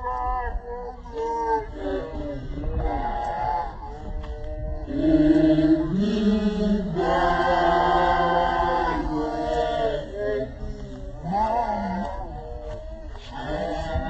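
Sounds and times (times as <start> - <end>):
women singing a chant: 0.9 - 14.0.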